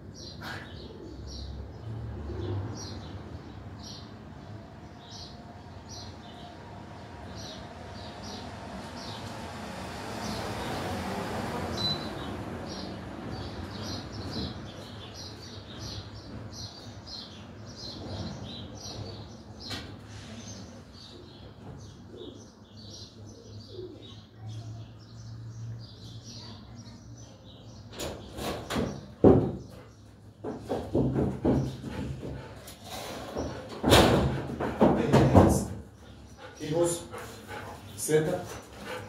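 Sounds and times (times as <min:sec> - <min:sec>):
small birds chirping: 0:00.0 - 0:09.4, 0:11.7 - 0:33.8, 0:35.0 - 0:39.0.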